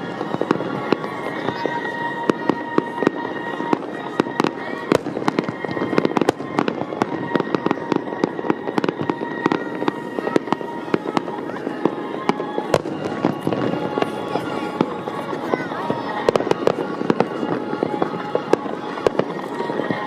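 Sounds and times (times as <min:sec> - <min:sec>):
continuous din: 0:00.0 - 0:20.0
fireworks bangs and crackles: 0:00.0 - 0:20.0.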